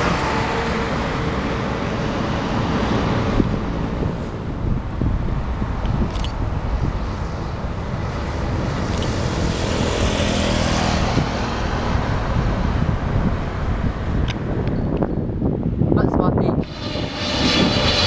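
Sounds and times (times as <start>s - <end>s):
jet airliner engine rush: 0.0s - 18.0s
wind buffeting microphone: 0.0s - 18.0s.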